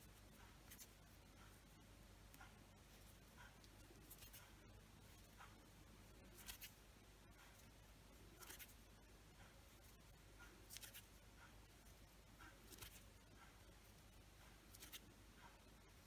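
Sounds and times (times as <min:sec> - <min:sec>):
crochet hook and yarn rustling: 0:00.0 - 0:15.7.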